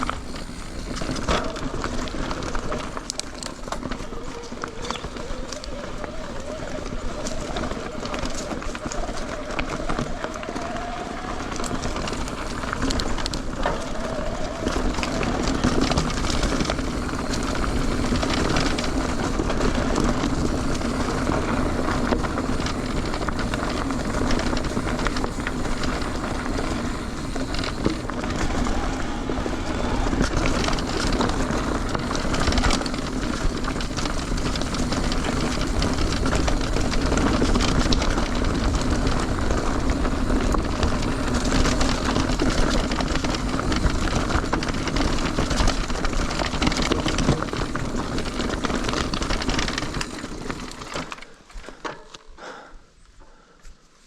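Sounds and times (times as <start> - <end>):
bike rattling over rocks: 0.0 - 52.3
bike tyres rumbling on dirt: 0.0 - 52.7.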